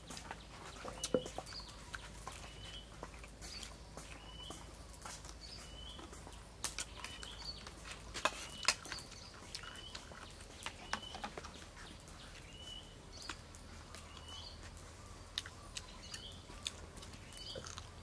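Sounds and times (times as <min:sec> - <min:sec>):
person eating with clicks and smacks: 0:00.0 - 0:18.0.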